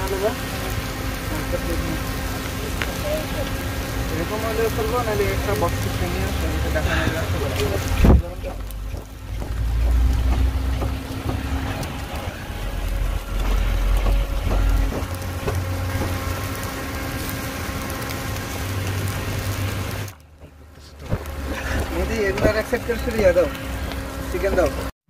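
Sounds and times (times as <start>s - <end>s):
wind rumbling on microphone: 0.0s - 24.9s.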